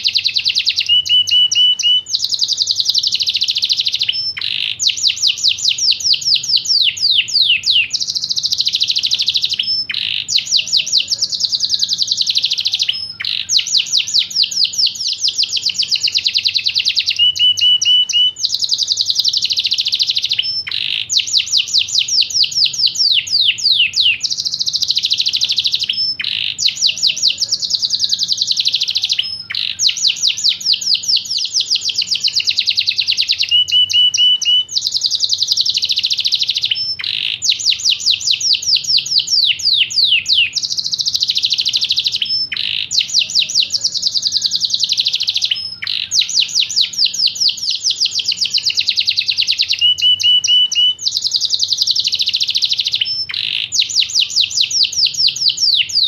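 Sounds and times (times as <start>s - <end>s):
canary singing rapid trills: 0.0s - 56.0s.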